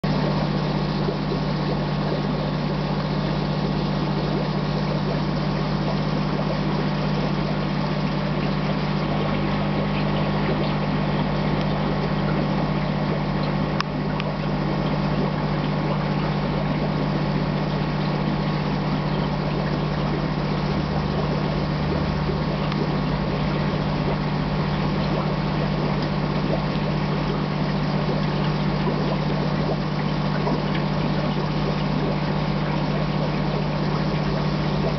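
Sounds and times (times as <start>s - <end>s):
pump humming: 0.0s - 34.9s
water rushing: 0.0s - 34.9s.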